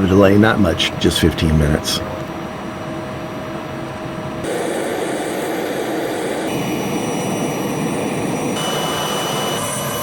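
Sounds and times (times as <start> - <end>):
jet turbine rushing: 0.0 - 10.0.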